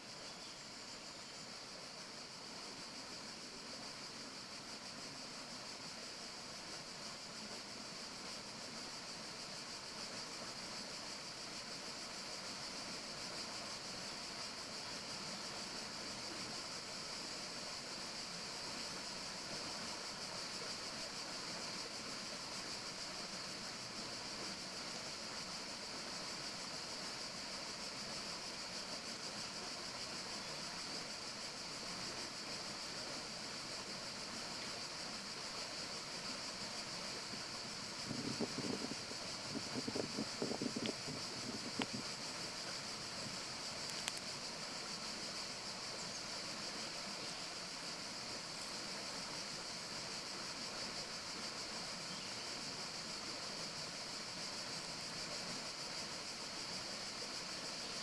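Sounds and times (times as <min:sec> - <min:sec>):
hiss of water or wind: 0:00.0 - 0:58.0.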